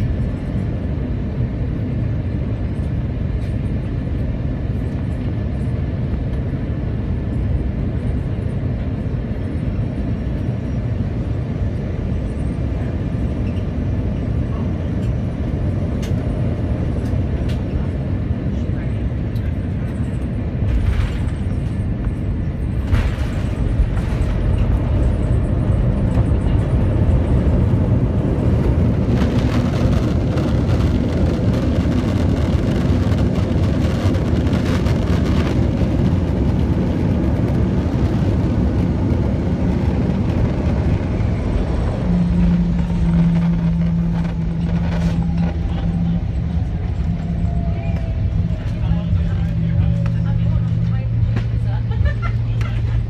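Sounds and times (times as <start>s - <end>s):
jet engine rumble in cabin: 0.0s - 53.0s
steady low hum: 0.0s - 53.0s.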